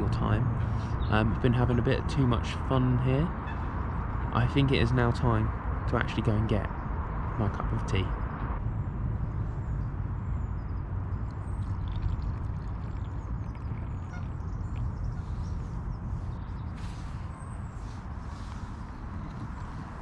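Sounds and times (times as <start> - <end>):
small birds chirping: 0.0 - 8.5, 9.4 - 20.0
low rumbling noise: 0.0 - 20.0.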